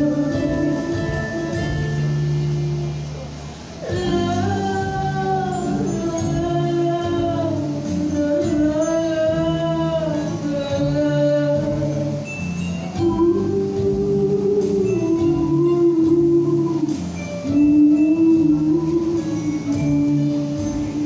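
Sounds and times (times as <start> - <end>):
person singing long held notes: 0.0 - 3.1, 3.8 - 21.0
musical accompaniment: 0.0 - 21.0.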